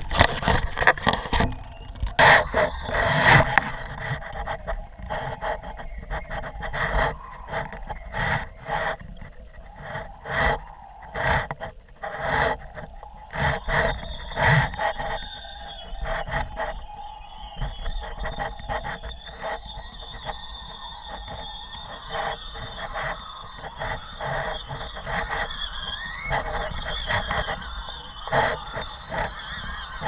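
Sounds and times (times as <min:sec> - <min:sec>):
faint steady hum: 0:00.0 - 0:30.0
wind buffeting microphone: 0:00.0 - 0:30.0.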